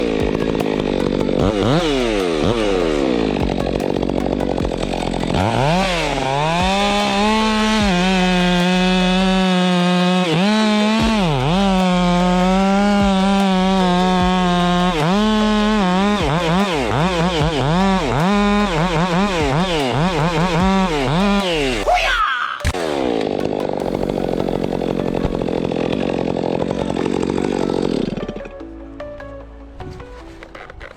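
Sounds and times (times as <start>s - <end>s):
chainsaw engine cutting: 0.0s - 28.8s, 30.2s - 30.9s.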